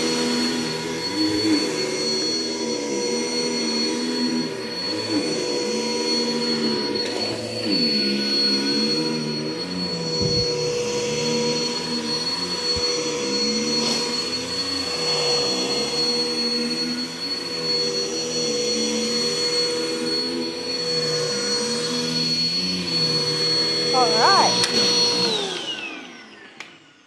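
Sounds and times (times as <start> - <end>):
vacuum cleaner whining: 0.0 - 27.0.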